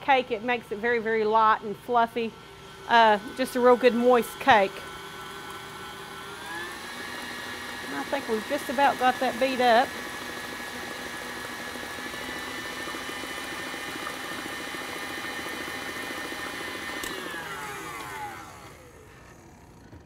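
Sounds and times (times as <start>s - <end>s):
stand mixer motor whine: 0.3s - 20.0s.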